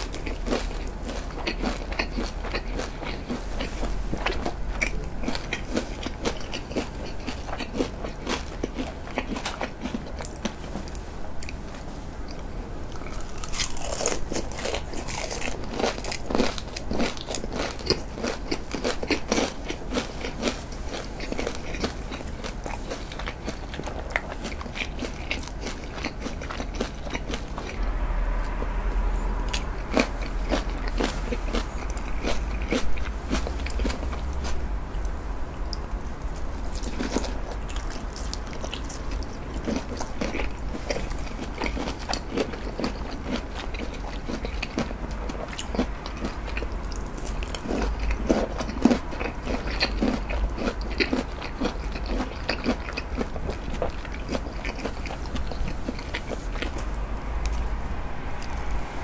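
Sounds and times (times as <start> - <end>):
person chewing and crunching food: 0.0 - 57.8.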